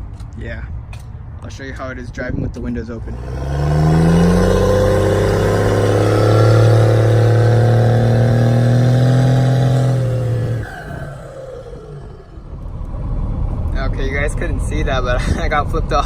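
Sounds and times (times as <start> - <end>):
diesel engine deep drone: 2.8 - 16.0.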